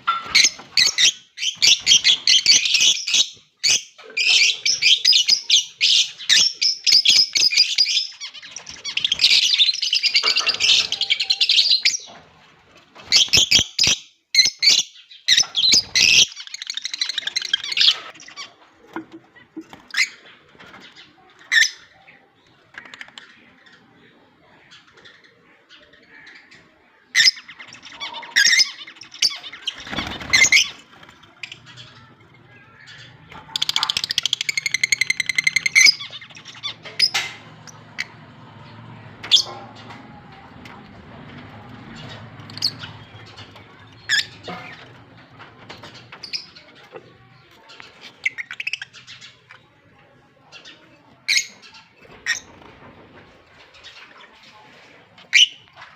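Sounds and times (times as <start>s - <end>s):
lovebirds chirping and squawking: 0.0s - 55.9s.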